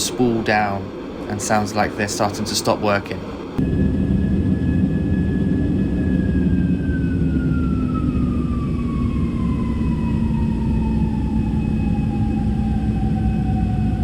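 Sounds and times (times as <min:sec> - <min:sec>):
jet engines spooling down: 0:00.0 - 0:14.0.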